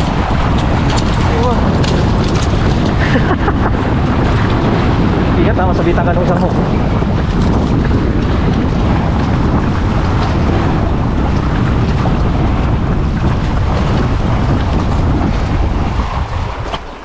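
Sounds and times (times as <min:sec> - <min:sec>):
sea surf on rocky shore: 0:00.0 - 0:17.0
wind rumbling on microphone: 0:00.0 - 0:17.0.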